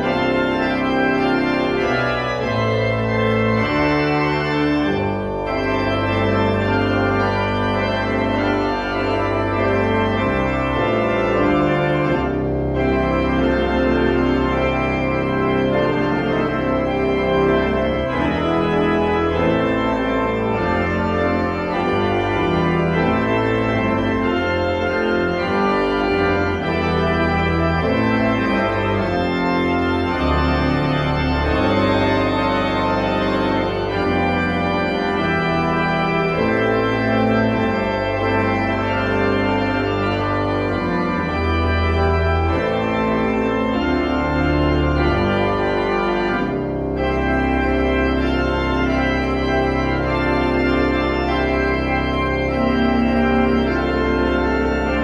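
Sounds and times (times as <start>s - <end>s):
pipe organ playing chords: 0.0s - 55.0s.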